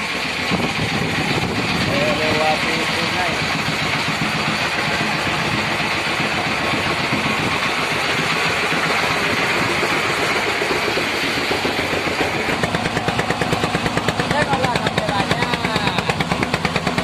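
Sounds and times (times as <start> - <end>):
ferry engine chugging: 0.0 - 17.0.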